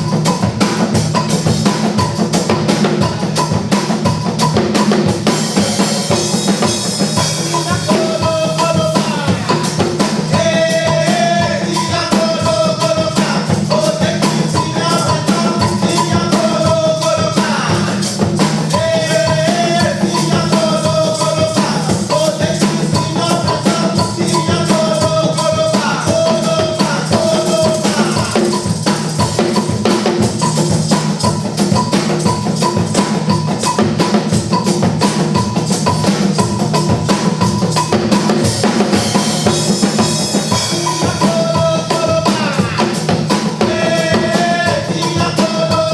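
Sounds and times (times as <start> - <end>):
drum kit and percussion beat: 0.0 - 45.9.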